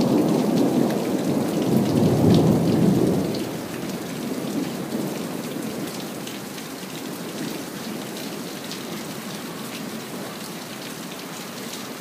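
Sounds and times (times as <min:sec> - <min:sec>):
rain pattering on a surface: 0:00.0 - 0:12.0.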